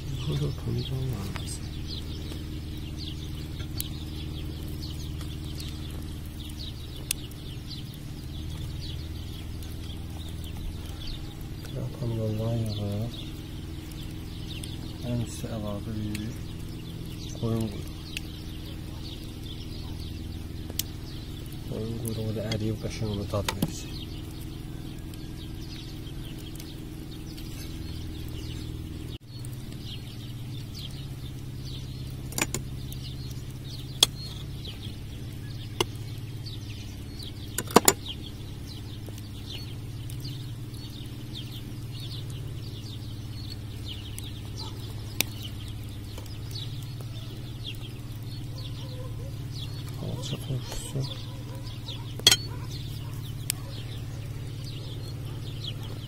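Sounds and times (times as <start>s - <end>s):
small birds twittering: 0.0s - 56.0s
steady low hum: 0.0s - 56.0s.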